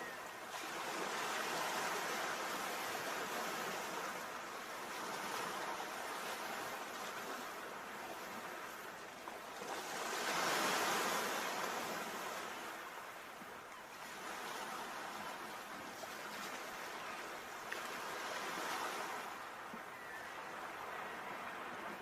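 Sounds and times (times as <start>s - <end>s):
sea waves breaking: 0.0s - 22.0s.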